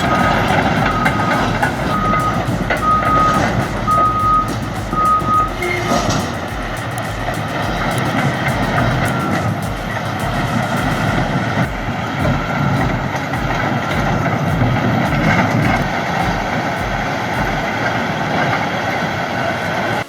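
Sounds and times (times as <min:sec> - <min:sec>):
steady low beat: 0:00.0 - 0:18.2
bulldozer diesel engine under load: 0:00.0 - 0:20.0
steel tracks clattering: 0:00.0 - 0:20.0.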